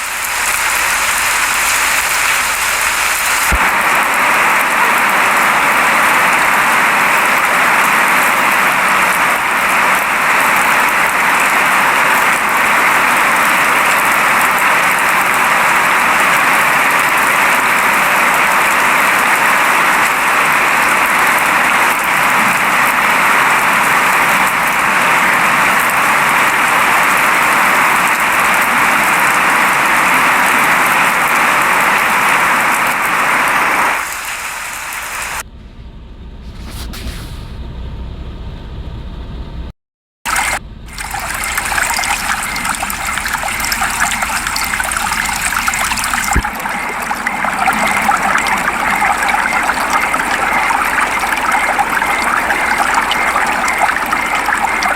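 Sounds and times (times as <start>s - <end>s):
steady rain falling: 0.0s - 35.4s, 40.3s - 54.9s.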